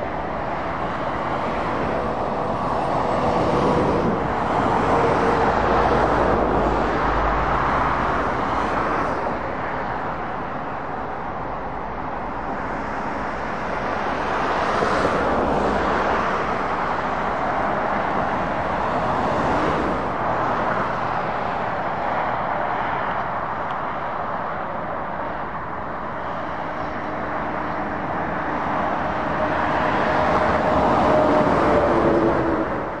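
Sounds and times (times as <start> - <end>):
vehicles passing on motorway: 0.0 - 33.0.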